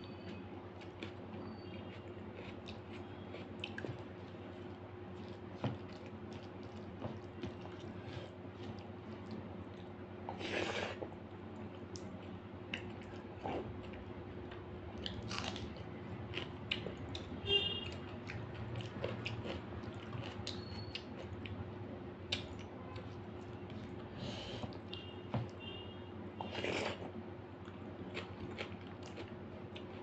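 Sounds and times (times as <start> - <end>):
person chewing food: 0.2 - 21.6, 26.4 - 30.0.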